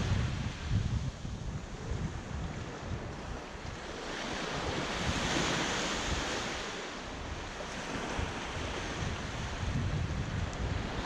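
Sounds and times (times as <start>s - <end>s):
small waves washing on shore: 0.0s - 11.0s
wind buffeting microphone: 0.0s - 11.0s.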